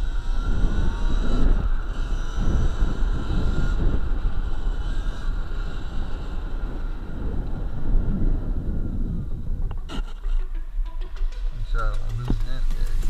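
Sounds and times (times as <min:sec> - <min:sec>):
electric dirt bike whine: 0:00.0 - 0:10.5
wind buffeting microphone: 0:00.0 - 0:13.0.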